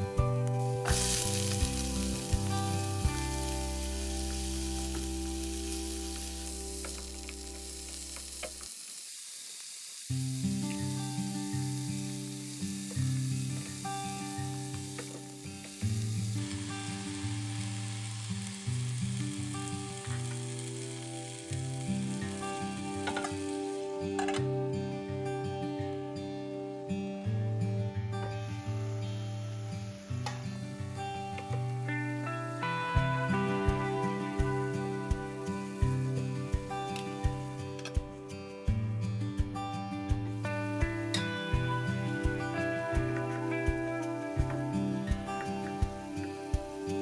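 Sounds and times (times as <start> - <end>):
background music: 0.0 - 8.6, 10.2 - 47.0
vegetables sizzling in a pan: 0.0 - 24.6, 28.7 - 38.5, 40.3 - 47.0.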